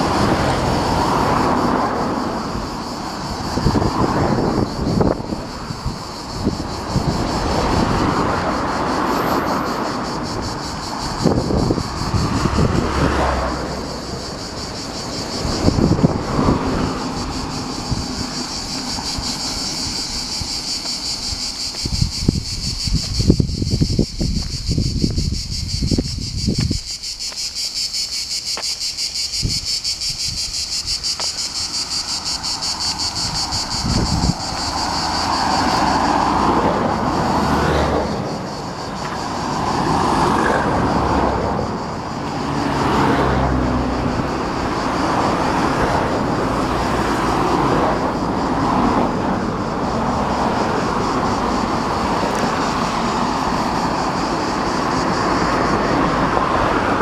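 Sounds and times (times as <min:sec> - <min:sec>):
high insect chorus: 0:00.0 - 0:57.0
passing road traffic: 0:00.0 - 0:57.0.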